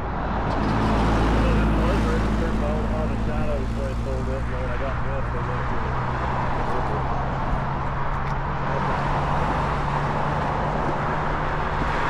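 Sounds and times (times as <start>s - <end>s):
roadside traffic: 0.0s - 12.0s.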